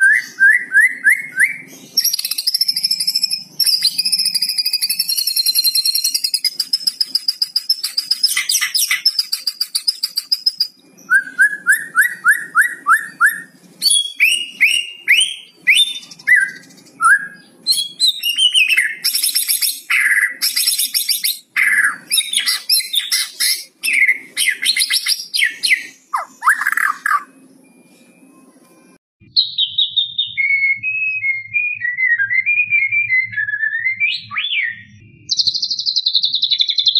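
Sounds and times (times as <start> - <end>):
bird singing varied song: 0.0 - 28.1, 29.2 - 36.9.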